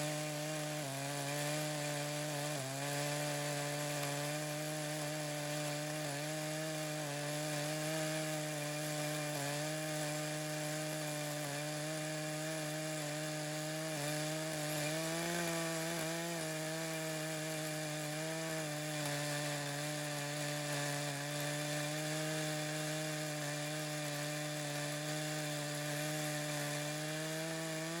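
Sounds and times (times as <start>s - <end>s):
chainsaw cutting wood at high revs: 0.0s - 28.0s.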